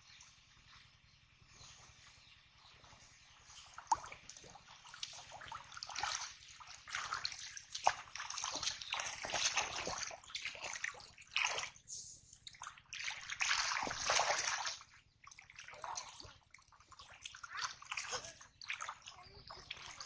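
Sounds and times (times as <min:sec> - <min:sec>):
muddy water sloshing: 0:00.0 - 0:20.0.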